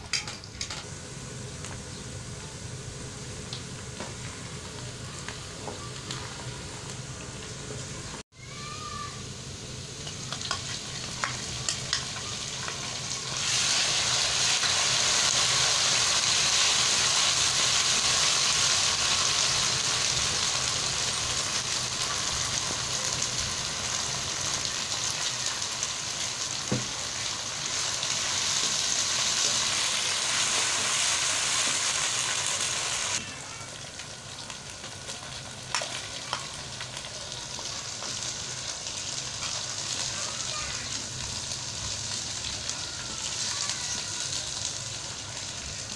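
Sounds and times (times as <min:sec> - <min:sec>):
food sizzling in hot oil: 0:00.0 - 0:45.9.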